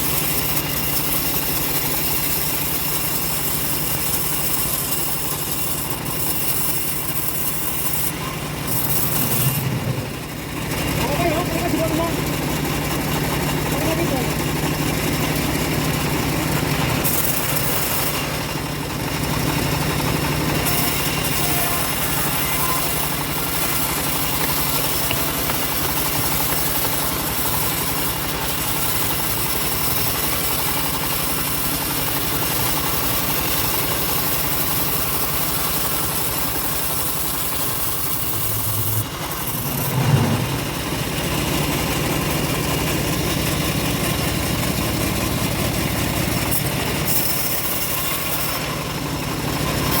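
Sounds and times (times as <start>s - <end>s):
bandsaw mill engine droning: 0.0s - 50.0s.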